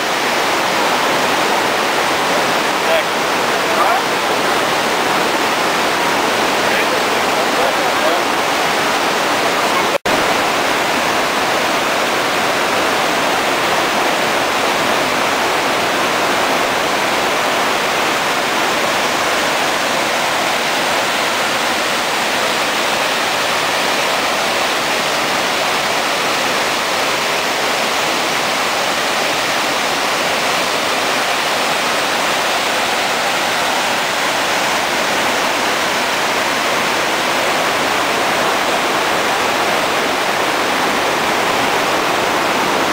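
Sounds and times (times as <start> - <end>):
stream rushing over boulders: 0.0 - 42.9.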